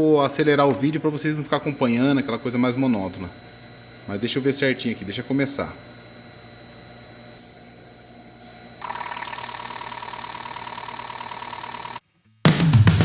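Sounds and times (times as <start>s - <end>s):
fuel injectors buzzing: 0.0s - 12.0s
low steady hum: 0.0s - 12.0s.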